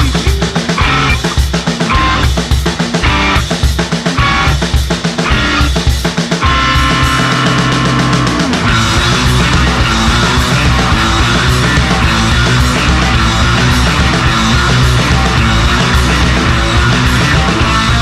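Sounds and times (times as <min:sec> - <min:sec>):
heavy rock music: 0:00.0 - 0:18.0.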